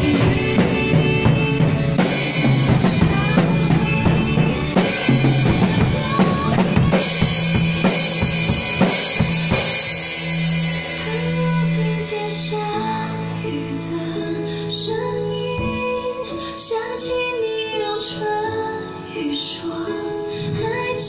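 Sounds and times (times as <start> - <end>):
backing track music: 0.0 - 21.0.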